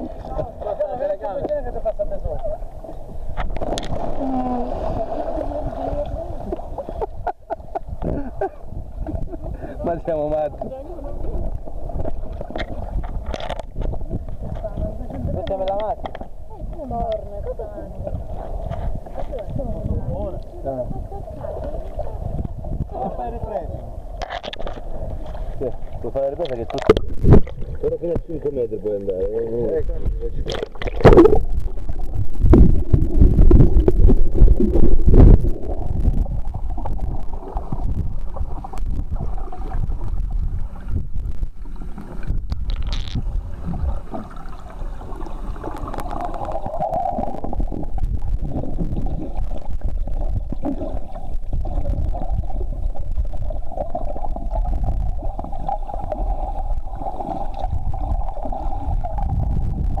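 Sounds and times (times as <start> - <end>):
underwater rumble and gurgling: 0.0 - 60.0.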